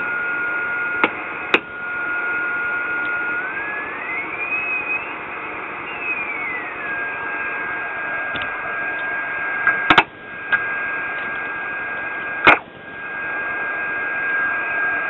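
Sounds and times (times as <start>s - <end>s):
constant whistle: 0.0s - 15.0s
radio receiver hiss: 0.0s - 15.0s.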